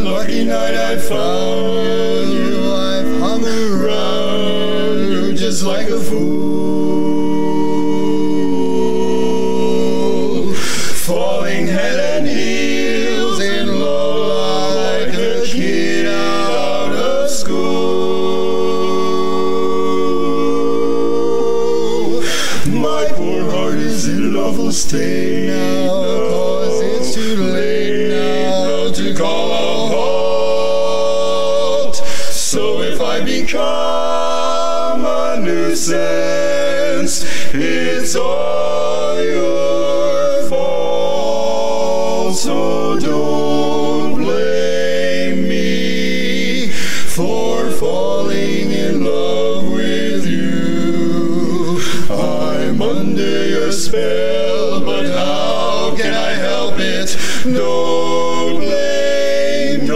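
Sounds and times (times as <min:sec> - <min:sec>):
male quartet singing a cappella: 0:00.0 - 0:59.9.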